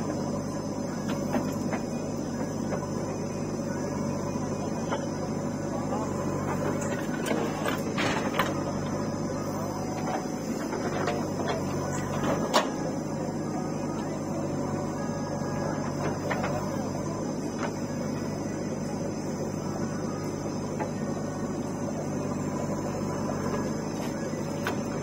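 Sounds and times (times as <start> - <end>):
diesel engine under load: 0.0 - 25.0
steady whine: 0.0 - 25.0.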